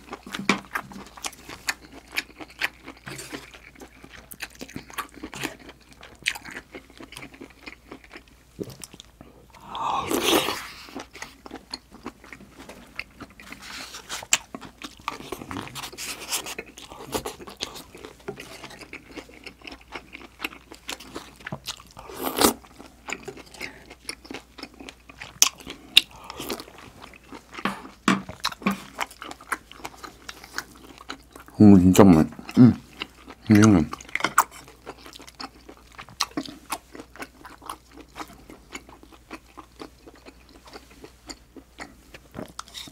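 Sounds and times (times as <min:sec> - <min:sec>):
wet chewing and mouth clicks: 0:00.0 - 0:31.6, 0:32.4 - 0:42.9.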